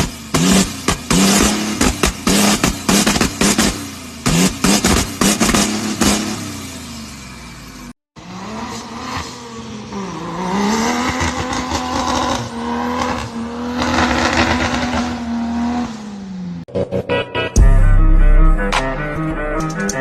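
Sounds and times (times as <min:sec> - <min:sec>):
off-road vehicle engine revving: 0:00.0 - 0:16.7.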